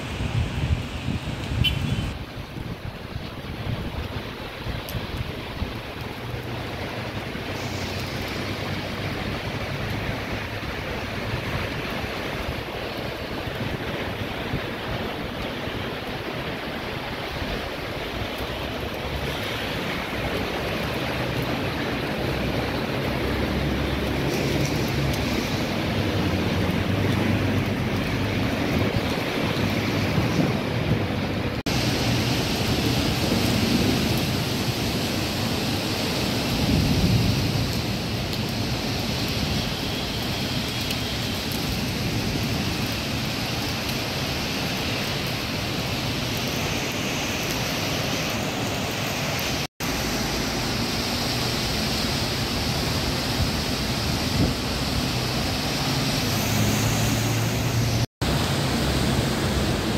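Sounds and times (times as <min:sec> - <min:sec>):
rushing hiss of rain: 0:00.0 - 0:59.9.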